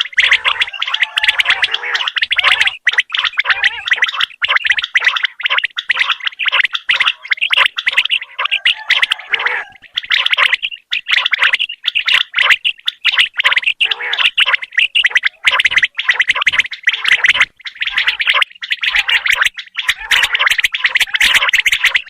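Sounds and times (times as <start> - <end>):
quail rasping calls: 0.0 - 22.0.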